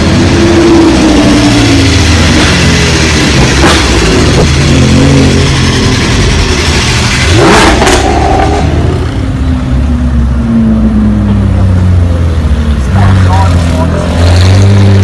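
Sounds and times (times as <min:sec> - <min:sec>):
supercar engines revving: 0:00.0 - 0:15.0.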